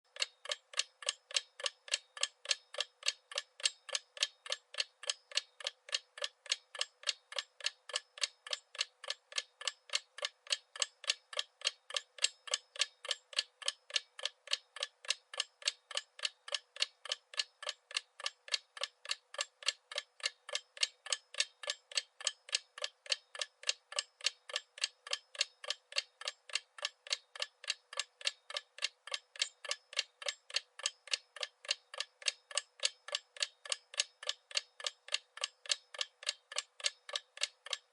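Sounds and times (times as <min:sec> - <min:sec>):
clock ticking: 0:00.1 - 0:37.9.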